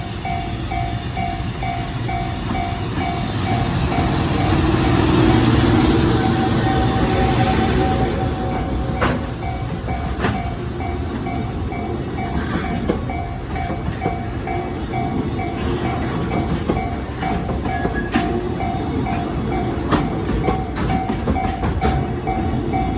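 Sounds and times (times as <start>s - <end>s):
crossing warning bell ringing: 0.0s - 22.9s
freight train rumbling: 0.0s - 22.9s
train wheels clacking: 0.0s - 22.9s.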